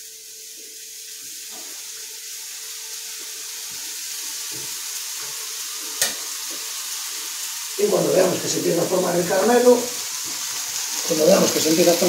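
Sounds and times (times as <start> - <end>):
pineapple sizzling in frying pan: 0.0 - 12.0.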